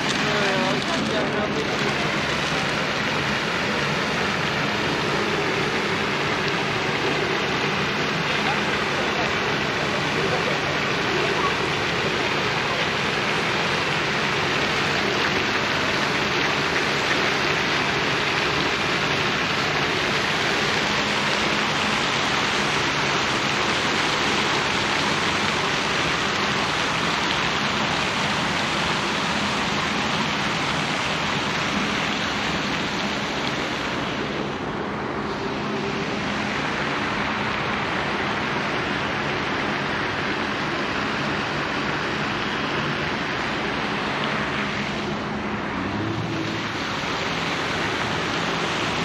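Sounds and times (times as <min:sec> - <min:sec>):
fountain spray falling into pond: 0:00.0 - 0:49.0.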